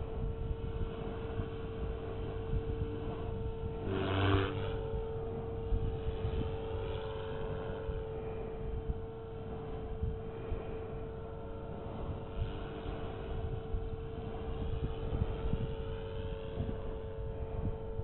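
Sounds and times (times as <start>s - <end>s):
rc helicopter motor whine: 0.0s - 18.0s
wind rumbling on microphone: 0.0s - 18.0s.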